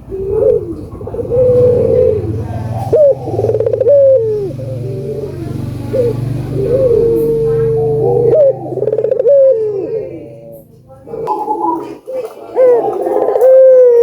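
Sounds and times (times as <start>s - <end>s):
doves cooing: 0.0s - 14.0s.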